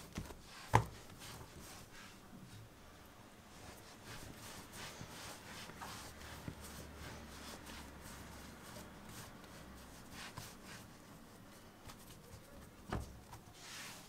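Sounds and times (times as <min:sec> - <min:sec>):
hands rubbing dough: 0:00.0 - 0:02.8, 0:03.4 - 0:14.0.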